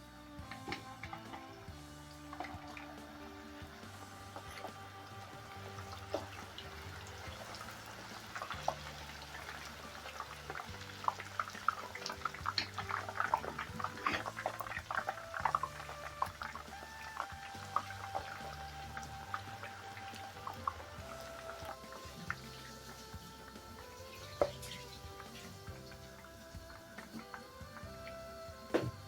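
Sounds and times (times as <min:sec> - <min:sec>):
background music: 0:00.0 - 0:29.0
slices frying in hot oil: 0:00.2 - 0:29.0.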